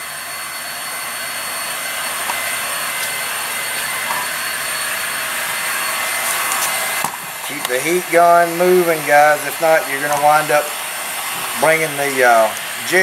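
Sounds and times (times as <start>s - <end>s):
heat gun fan blowing with whine: 0.0s - 13.0s.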